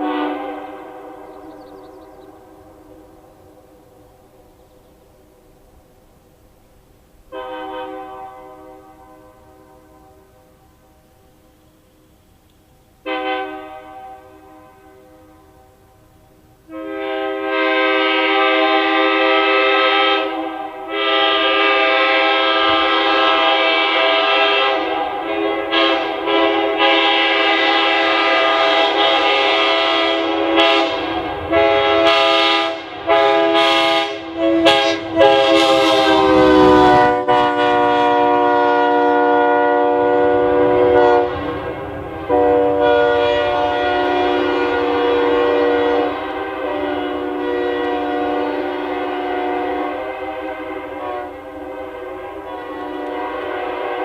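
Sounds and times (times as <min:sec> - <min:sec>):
locomotive air horn blasts: 0:00.0 - 0:03.9, 0:07.2 - 0:11.6, 0:13.0 - 0:54.0
train rumble: 0:00.0 - 0:54.0.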